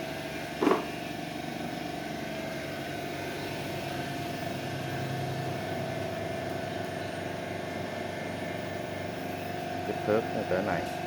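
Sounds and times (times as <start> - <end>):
machine humming: 0.0 - 11.0
thin constant whine: 0.0 - 11.0.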